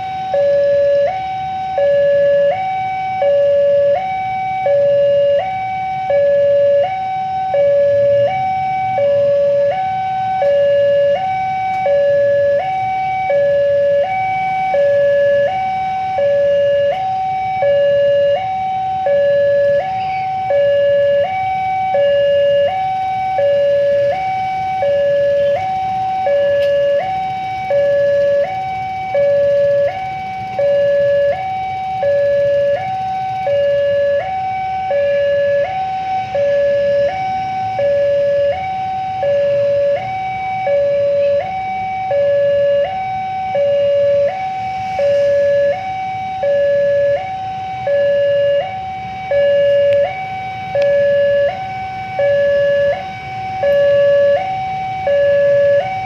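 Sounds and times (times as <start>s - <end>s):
level crossing two-tone alarm: 0.0s - 56.0s
motorcycle engines idling: 0.0s - 56.0s.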